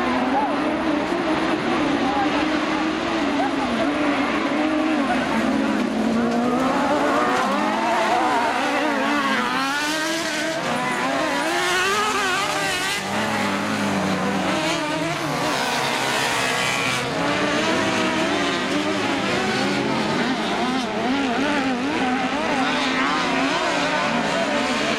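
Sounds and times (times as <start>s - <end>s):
racing buggy engines revving: 0.0s - 24.9s.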